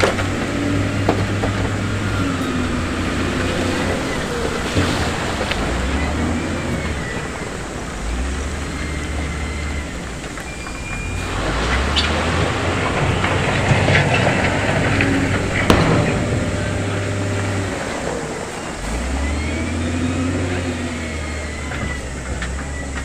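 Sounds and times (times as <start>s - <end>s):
knocks and clatter: 0.0s - 9.0s, 9.8s - 19.8s
heavy diesel machinery running: 0.0s - 23.0s.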